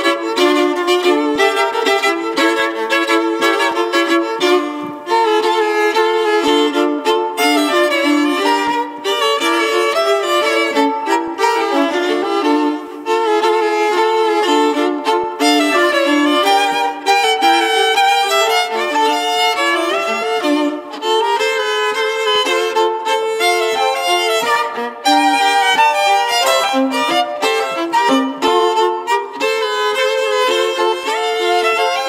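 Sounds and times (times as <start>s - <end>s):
violin playing folk dance: 0.0s - 32.0s.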